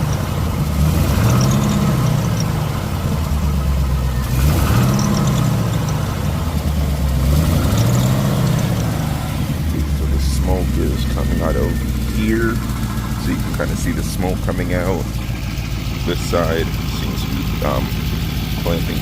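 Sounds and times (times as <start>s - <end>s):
car engine revving at idle: 0.0s - 19.0s.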